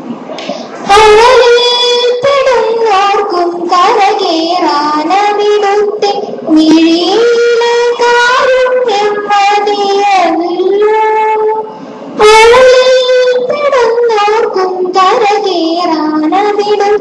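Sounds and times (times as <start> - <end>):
girl singing into a microphone: 0.8 - 17.0.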